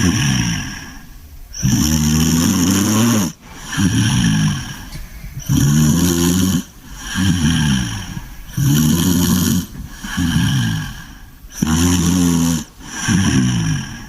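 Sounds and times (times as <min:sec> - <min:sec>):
dog snoring: 0:00.0 - 0:14.0.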